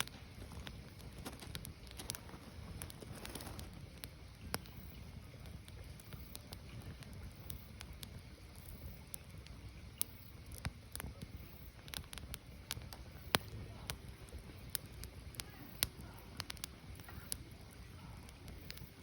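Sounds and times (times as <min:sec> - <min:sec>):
firewood crackling and popping: 0:00.0 - 0:19.0
low rumble of fire: 0:00.0 - 0:19.0.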